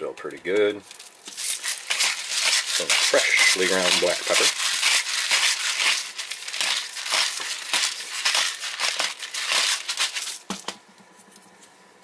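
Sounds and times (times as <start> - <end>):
pepper grinder crunching: 0.5 - 10.6.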